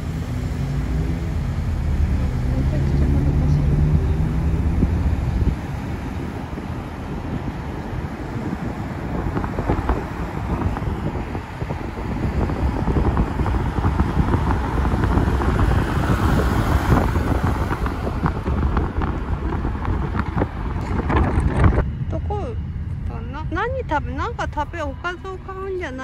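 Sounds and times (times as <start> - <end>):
car road and wind noise: 0.0 - 26.0
passing vehicle: 0.0 - 26.0.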